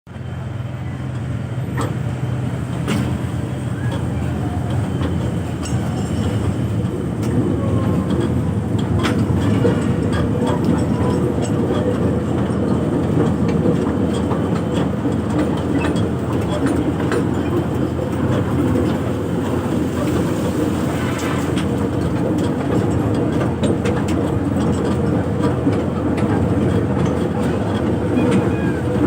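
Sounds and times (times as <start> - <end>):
toy train rumbling: 0.5 - 29.0.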